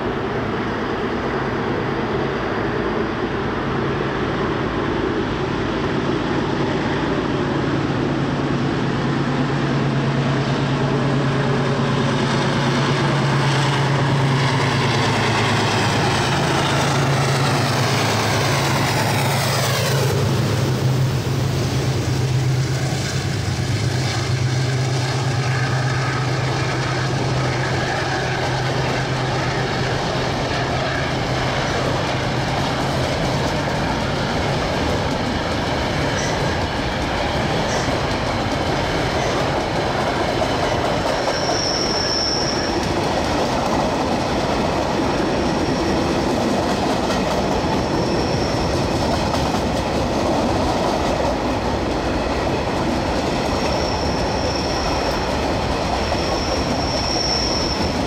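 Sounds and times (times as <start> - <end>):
diesel locomotive engine drone: 0.0 - 58.0.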